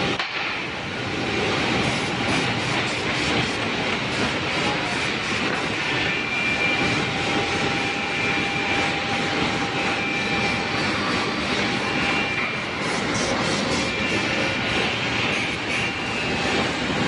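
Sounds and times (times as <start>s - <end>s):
machinery roaring: 0.0s - 17.0s.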